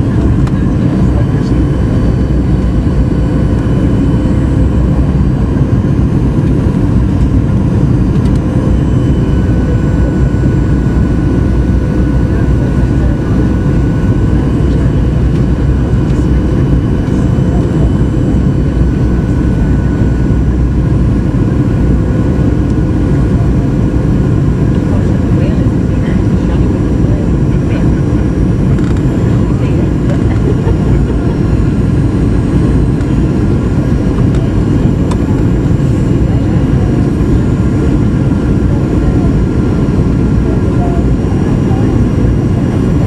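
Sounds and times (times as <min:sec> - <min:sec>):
jet engine rush: 0:00.0 - 0:43.0.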